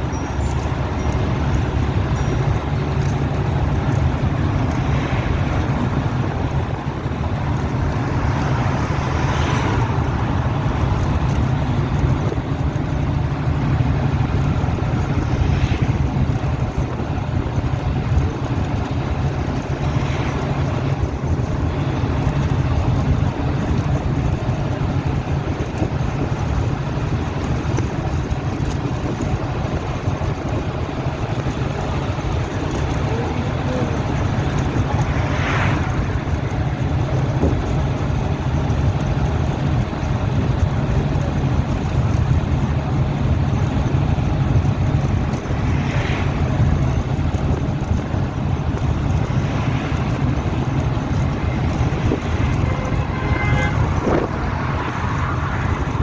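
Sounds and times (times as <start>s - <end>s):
vehicle rumble: 0.0s - 56.0s
wind noise on microphone: 0.0s - 56.0s.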